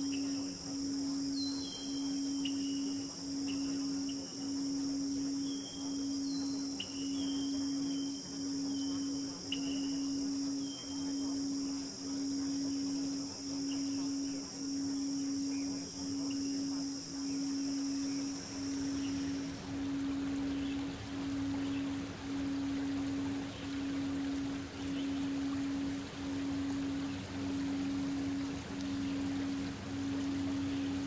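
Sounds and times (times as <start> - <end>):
crickets chirring: 0.0 - 31.0
low pulsing tone: 0.0 - 31.0.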